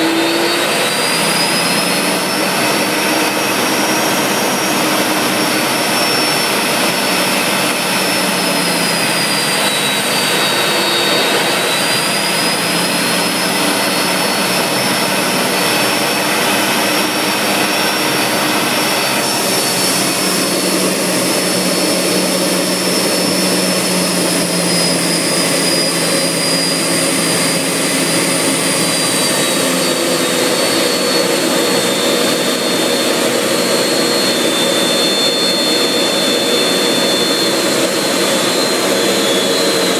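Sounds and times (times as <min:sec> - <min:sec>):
jet engine rush and whine: 0:00.0 - 0:39.9.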